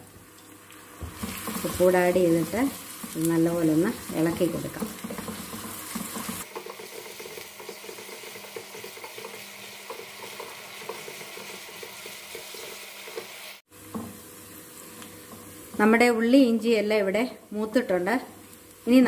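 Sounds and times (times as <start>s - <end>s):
vegetables sizzling in oil: 0.0s - 19.0s
spatula stirring and scraping: 0.4s - 15.9s.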